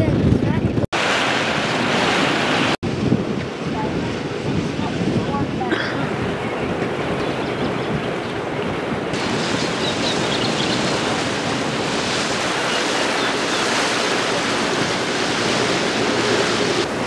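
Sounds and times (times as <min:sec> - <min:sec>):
wind noise on microphone: 0:00.0 - 0:17.0
rushing water: 0:00.7 - 0:17.0.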